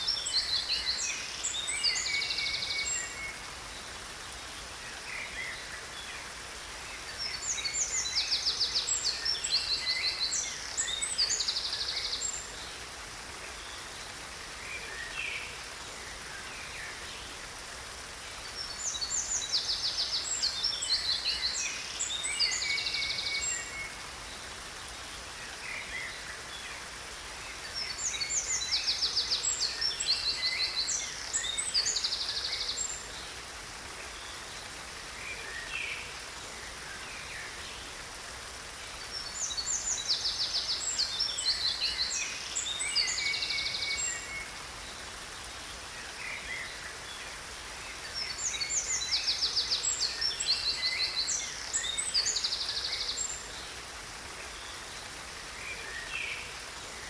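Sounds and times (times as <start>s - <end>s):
songbird chirps and trills: 0.0s - 57.0s
waterfall rushing: 0.0s - 57.0s.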